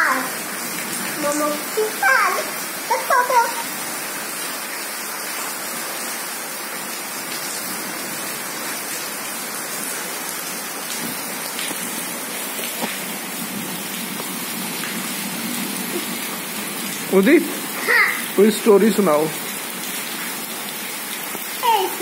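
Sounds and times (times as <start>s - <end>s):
rain hissing on ground: 0.0s - 22.0s.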